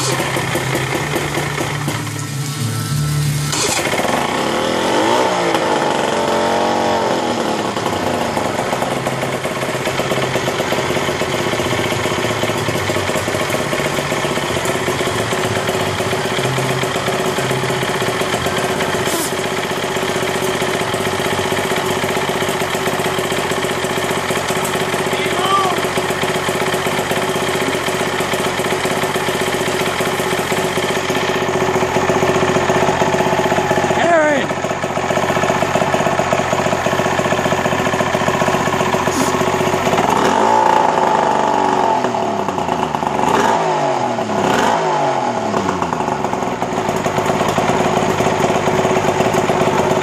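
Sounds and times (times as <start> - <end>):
outboard motor running: 0.0 - 50.0.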